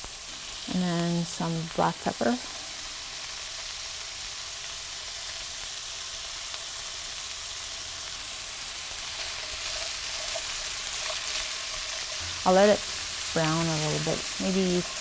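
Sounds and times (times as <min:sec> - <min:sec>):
carrots sizzling in oil: 0:00.0 - 0:15.0.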